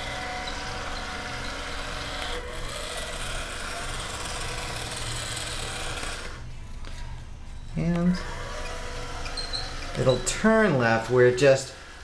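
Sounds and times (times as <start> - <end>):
small motors whirring: 0.0 - 7.2, 8.0 - 12.0.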